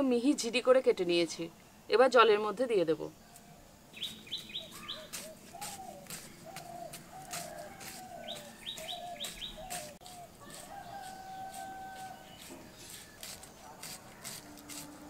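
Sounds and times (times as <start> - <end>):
small birds chirping: 2.9 - 15.0.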